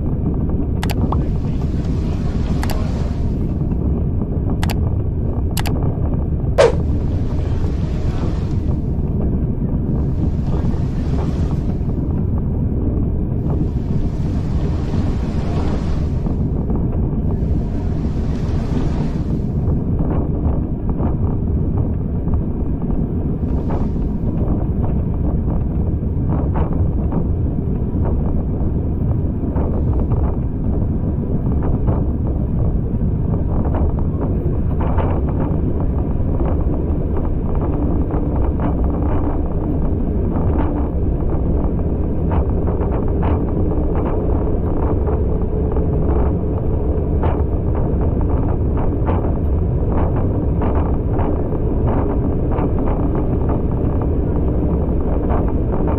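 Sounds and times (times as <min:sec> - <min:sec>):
train rumbling on track: 0:00.0 - 0:55.9
wind buffeting microphone: 0:00.0 - 0:55.9.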